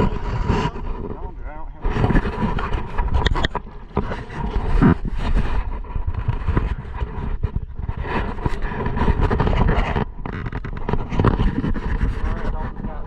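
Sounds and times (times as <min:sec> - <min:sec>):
steady low river rumble: 0:00.0 - 0:13.0.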